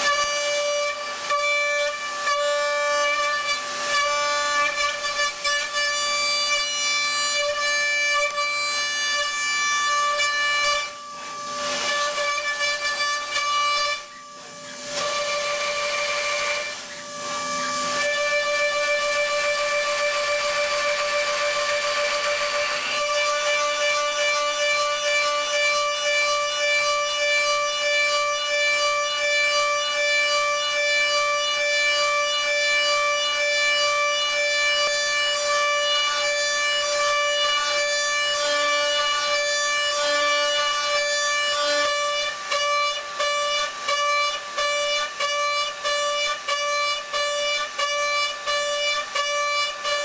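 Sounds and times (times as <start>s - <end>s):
milling machine high-pitched whine: 0.0s - 50.0s.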